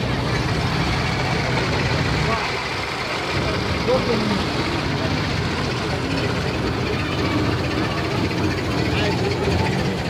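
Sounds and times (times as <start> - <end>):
crowd chatter: 0.0 - 10.0
engine running: 0.0 - 10.0.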